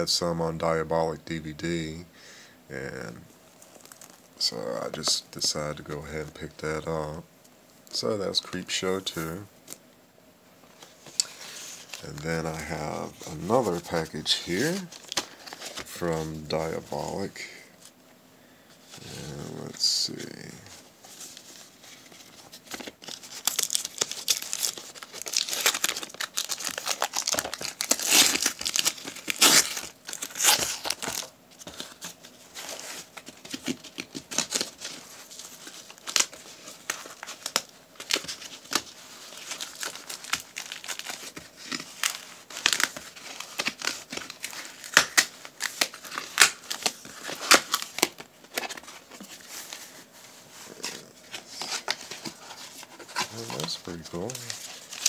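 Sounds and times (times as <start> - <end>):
wrapping crinkling: 3.5 - 5.5, 10.7 - 18.0, 18.9 - 55.0.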